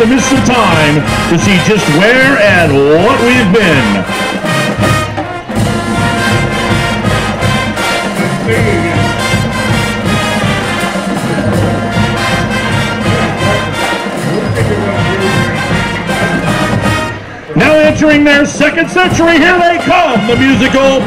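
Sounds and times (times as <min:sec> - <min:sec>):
marching band brass: 0:00.0 - 0:21.0
steady drum beat: 0:00.0 - 0:21.0.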